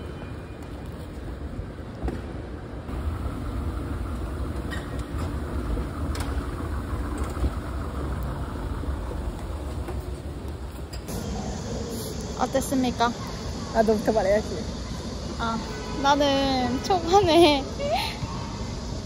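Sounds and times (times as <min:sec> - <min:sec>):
vehicle engine rumbling: 0:00.0 - 0:17.7.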